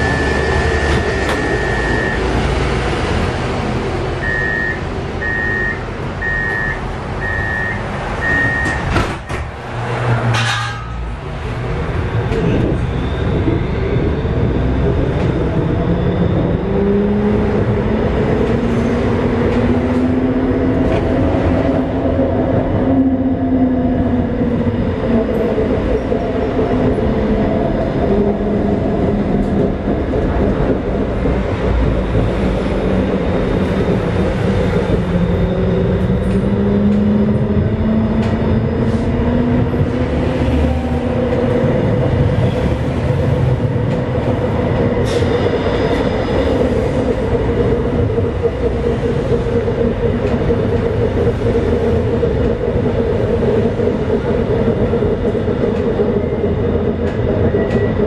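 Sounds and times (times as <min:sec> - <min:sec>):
tram motor whine: 0:00.0 - 0:58.0
wheels rumbling on rails: 0:00.0 - 0:58.0.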